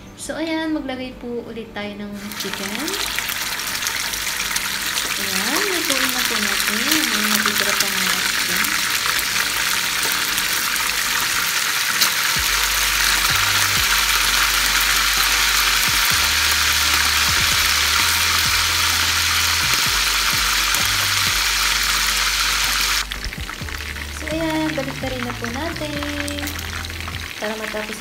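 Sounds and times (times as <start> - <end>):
chicken sizzling in hot oil: 2.2 - 28.0.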